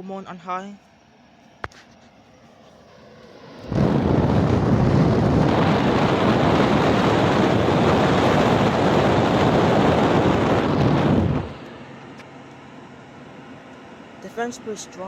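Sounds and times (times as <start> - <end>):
fan airflow buffeting microphone: 0.0 - 15.0.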